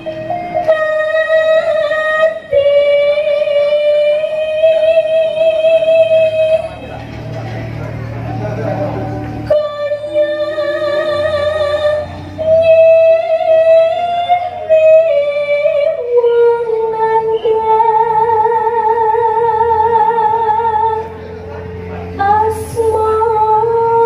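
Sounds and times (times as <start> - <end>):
woman singing with vibrato: 0.0 - 7.0, 9.4 - 24.0
low instrumental accompaniment: 0.0 - 24.0.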